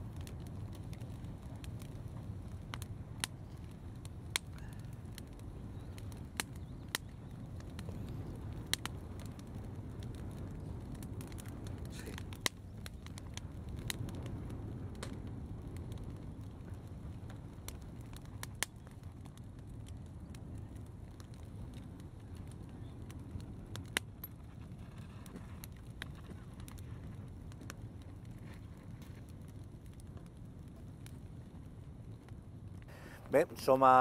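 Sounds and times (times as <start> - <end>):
fire crackling: 0.0 - 34.0.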